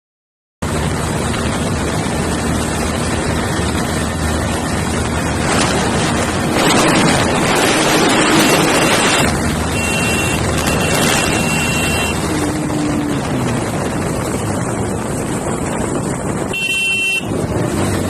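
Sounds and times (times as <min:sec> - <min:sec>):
motorcycle engine running: 0:00.6 - 0:18.0
wind rushing over microphone: 0:00.6 - 0:18.0.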